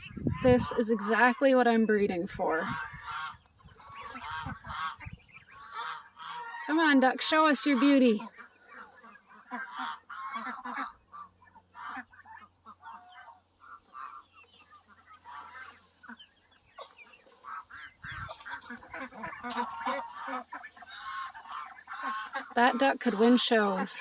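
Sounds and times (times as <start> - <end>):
poultry clucking and honking: 0.0 - 24.0.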